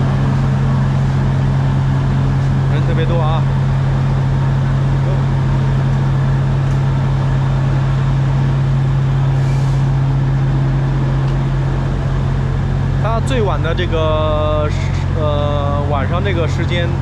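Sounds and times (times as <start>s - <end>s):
train carriage hum: 0.0s - 17.0s
train running rumble: 0.0s - 17.0s.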